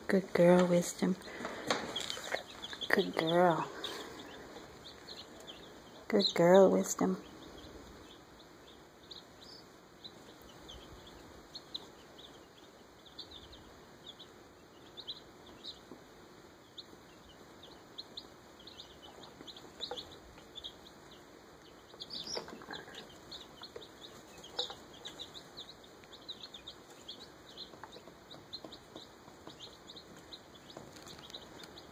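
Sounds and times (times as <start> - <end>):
chicks peeping: 0.0 - 31.9.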